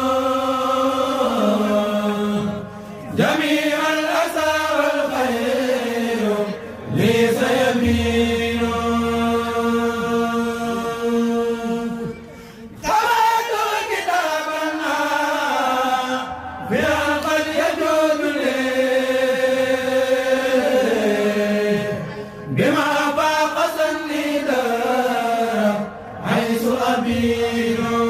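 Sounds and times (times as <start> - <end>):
choir chanting unaccompanied: 0.0 - 28.0.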